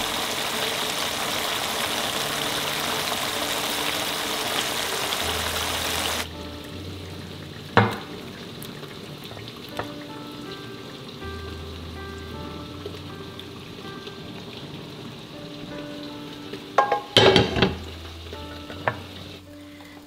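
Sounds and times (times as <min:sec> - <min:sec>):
sauce sizzling in a wok: 0:00.0 - 0:20.0
soft background music: 0:00.0 - 0:20.0.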